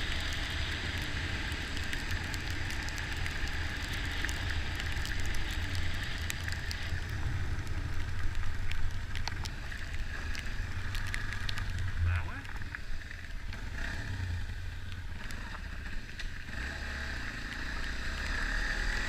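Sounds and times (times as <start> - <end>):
crackles and ticks: 0.0 - 19.0
dirt bike engine rumble: 0.0 - 19.0.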